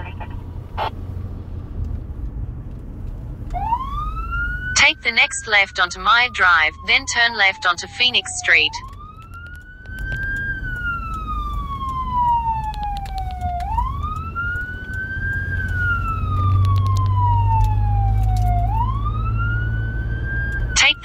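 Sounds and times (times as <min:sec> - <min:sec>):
engine and road rumble: 0:00.0 - 0:21.0
siren wailing: 0:03.5 - 0:21.0.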